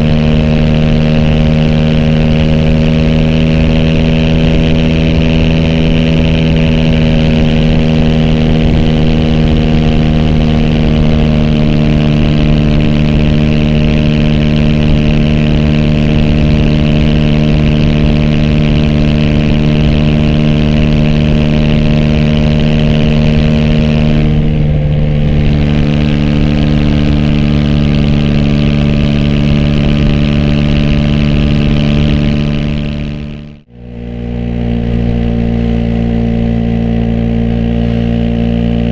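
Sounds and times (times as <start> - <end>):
muffled motorcycle engine running: 0.0 - 38.9.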